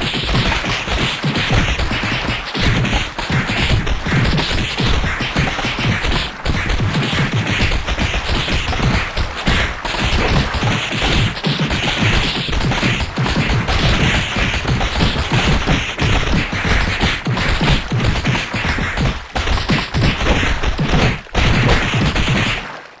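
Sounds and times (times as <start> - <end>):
overlapping crashes and thwacks: 0.0 - 22.8.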